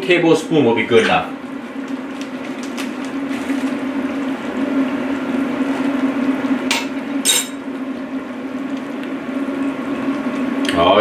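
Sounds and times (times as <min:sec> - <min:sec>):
pot simmering and bubbling: 0:01.2 - 0:10.7.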